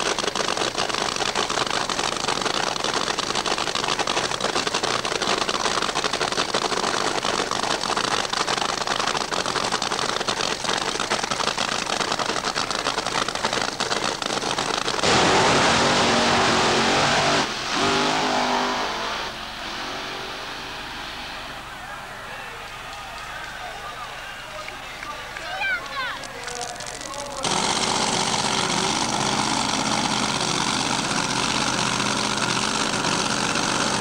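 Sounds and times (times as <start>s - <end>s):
drag racing engines: 0.0s - 34.0s.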